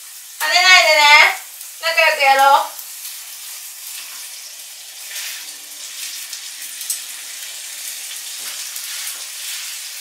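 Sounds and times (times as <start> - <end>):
chicken sizzling in oil: 0.0 - 10.0.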